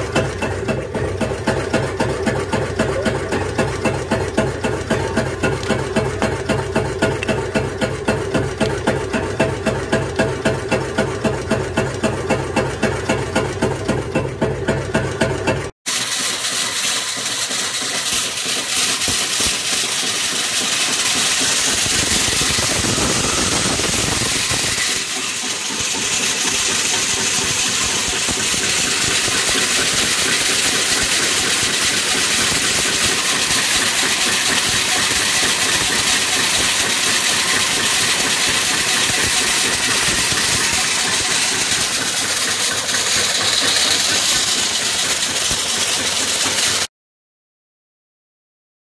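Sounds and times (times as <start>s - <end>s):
engine clattering: 0.0s - 46.9s.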